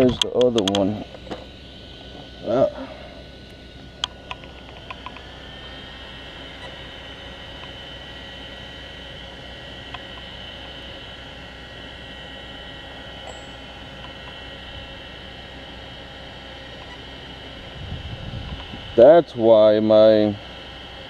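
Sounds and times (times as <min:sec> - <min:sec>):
electric cooling fans whining: 0:00.0 - 0:21.0.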